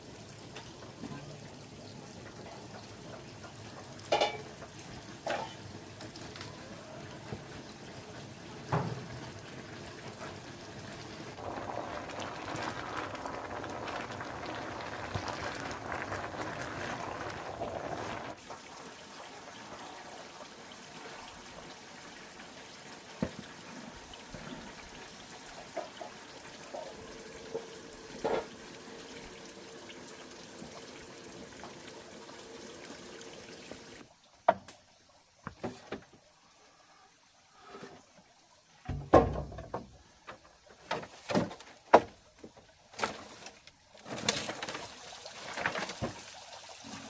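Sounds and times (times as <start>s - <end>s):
water pouring and trickling: 0.0s - 36.3s, 37.4s - 47.0s.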